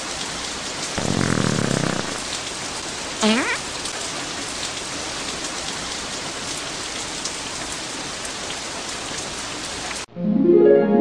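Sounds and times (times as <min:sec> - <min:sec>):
rain hissing: 0:00.0 - 0:10.1.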